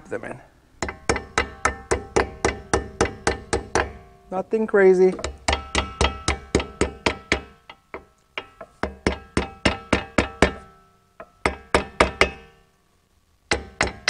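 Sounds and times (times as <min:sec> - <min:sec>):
small hammer tapping metal: 0:00.8 - 0:04.1, 0:05.1 - 0:12.6, 0:13.5 - 0:14.0.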